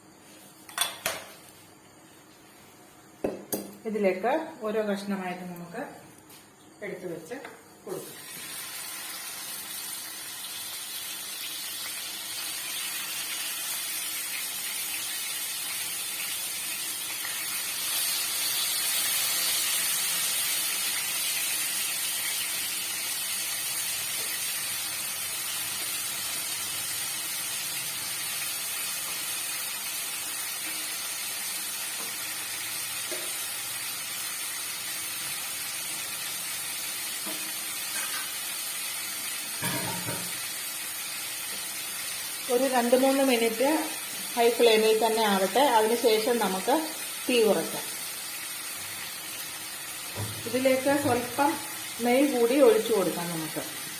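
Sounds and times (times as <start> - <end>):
chicken sizzling in hot oil: 7.9 - 53.9.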